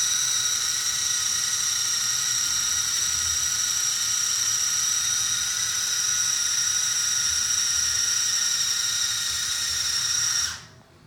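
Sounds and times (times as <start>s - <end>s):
small electric motor whining: 0.0s - 10.7s.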